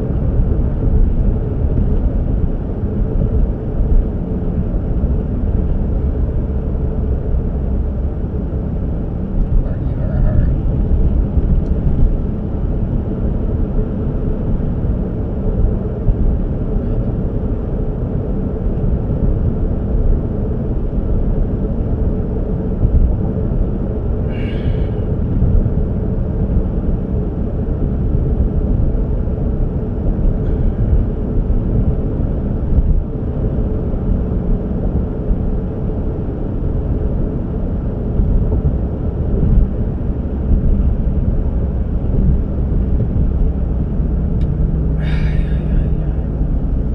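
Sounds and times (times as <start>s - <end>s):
road vehicle rumble: 0.0s - 46.9s.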